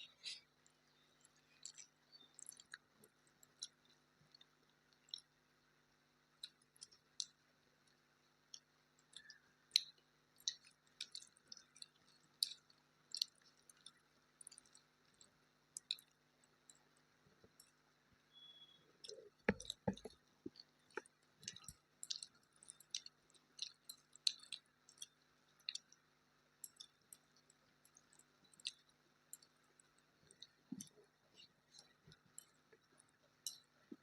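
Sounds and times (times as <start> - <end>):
person chewing food: 0.0 - 5.4, 6.3 - 34.0.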